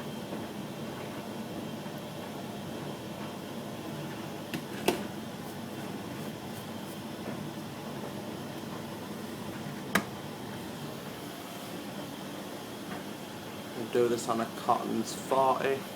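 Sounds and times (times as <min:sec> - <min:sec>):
tumble dryer running: 0:01.9 - 0:15.9.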